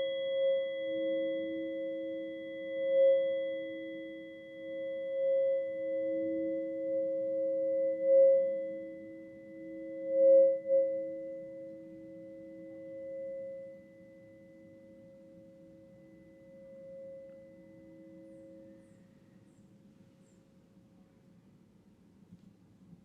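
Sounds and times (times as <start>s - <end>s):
tuning forks ringing: 0.0s - 19.0s.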